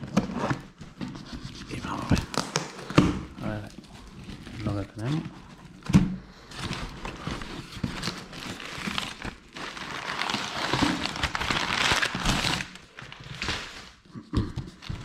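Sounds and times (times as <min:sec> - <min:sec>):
packing paper rustling: 0:01.7 - 0:14.0.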